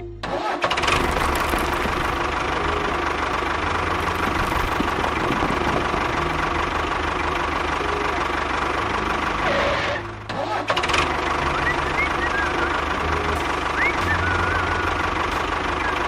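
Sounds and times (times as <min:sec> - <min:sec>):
engine idling: 0:00.1 - 0:16.0.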